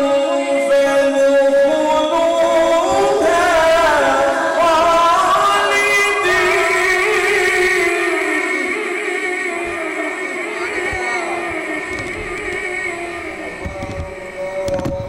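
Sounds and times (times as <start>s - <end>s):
man reciting in melodic chant: 0.0s - 15.0s.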